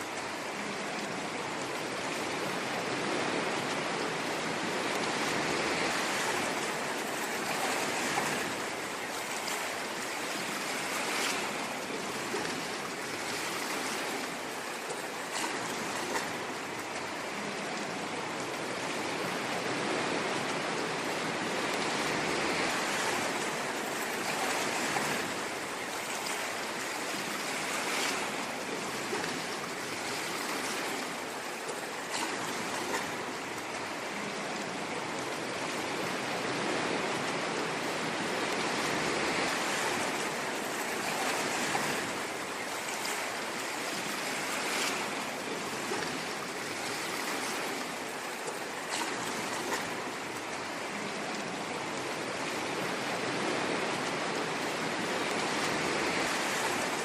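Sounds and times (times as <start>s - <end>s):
ocean waves washing on shore: 0.0s - 57.0s.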